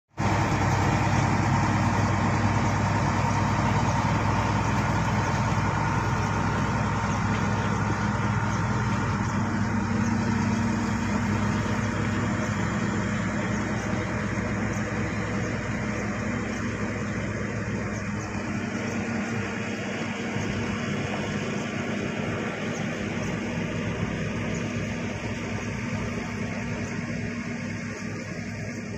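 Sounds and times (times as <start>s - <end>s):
bulldozer diesel engine running: 0.1s - 28.9s.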